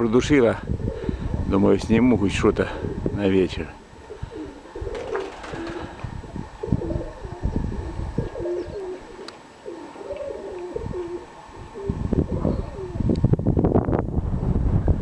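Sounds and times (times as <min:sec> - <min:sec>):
wind rumbling on microphone: 0:00.0 - 0:09.3, 0:10.1 - 0:15.0
pigeons cooing: 0:00.0 - 0:13.2.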